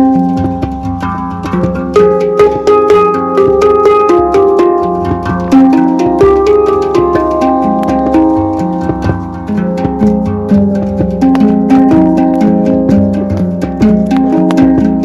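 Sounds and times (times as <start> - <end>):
held tones: 0.0 - 15.0
quick plucked notes: 0.0 - 15.0.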